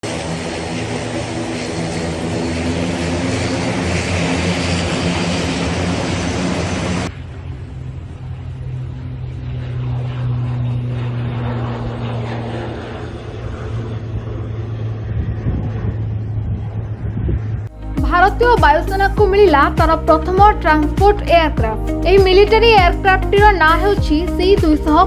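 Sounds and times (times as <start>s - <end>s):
low hum: 0.0s - 25.0s
propeller aircraft engines droning: 0.0s - 25.0s.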